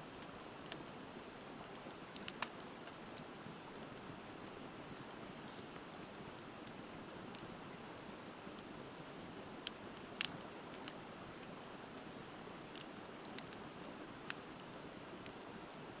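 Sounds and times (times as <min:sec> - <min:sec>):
bonfire crackling and popping: 0:00.1 - 0:16.0.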